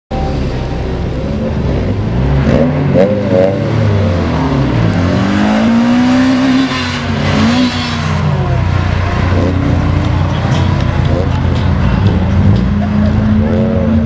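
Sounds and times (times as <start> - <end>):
car engine accelerating hard: 0.1 - 14.0.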